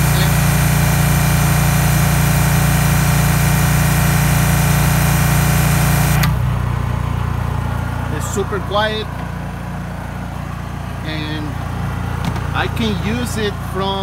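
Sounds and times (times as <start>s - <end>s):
pressure washer humming: 0.0s - 14.0s.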